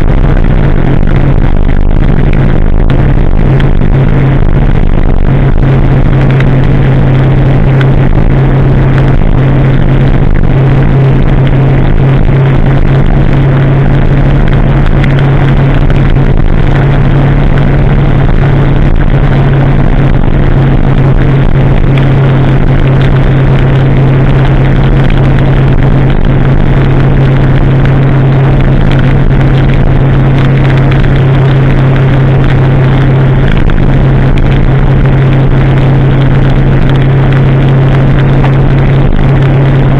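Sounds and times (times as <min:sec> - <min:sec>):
motorcycle engine droning: 0:00.0 - 0:39.9
wind and road noise: 0:00.0 - 0:39.9.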